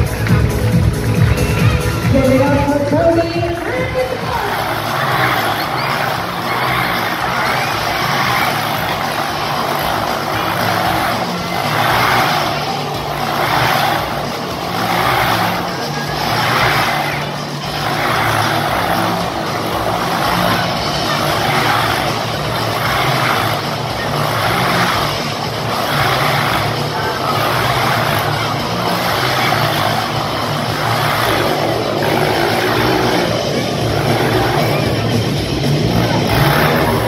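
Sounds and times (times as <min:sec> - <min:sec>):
motorcycle engines looping: 0:00.0 - 0:37.0.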